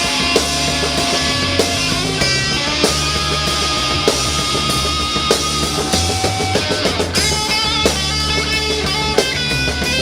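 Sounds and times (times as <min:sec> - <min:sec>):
drum kit: 0:00.0 - 0:10.0
sustained rock chords: 0:00.0 - 0:10.0.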